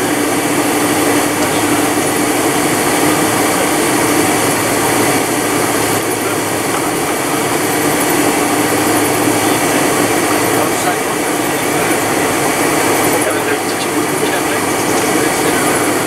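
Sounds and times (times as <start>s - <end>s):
jet engines rushing: 0.0s - 16.0s
low hum: 0.0s - 16.0s.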